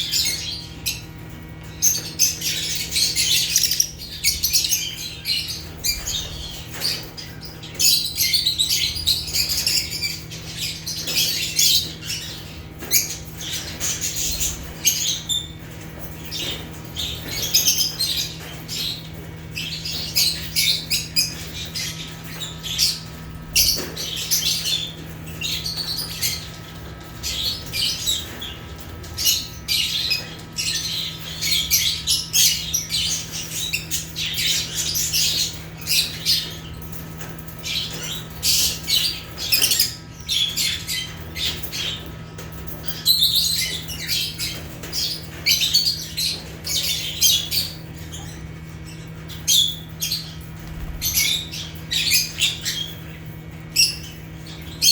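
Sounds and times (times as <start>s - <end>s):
birds chirping and squawking: 0.0s - 54.9s.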